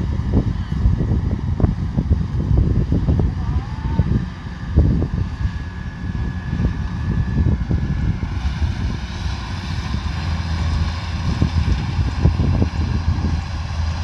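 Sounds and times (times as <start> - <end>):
combine harvester engine running: 0.0 - 14.0.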